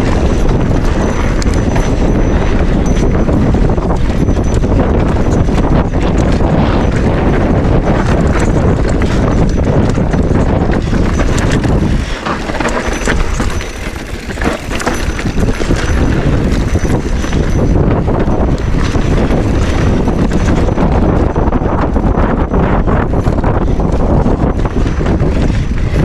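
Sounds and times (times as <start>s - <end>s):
mountain bike clattering over rough ground: 0.0s - 26.0s
wind buffeting microphone: 0.0s - 26.0s.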